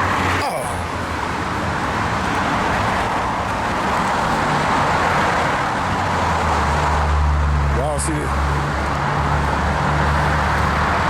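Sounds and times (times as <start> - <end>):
highway traffic noise: 0.0 - 11.0
low engine hum: 0.0 - 11.0.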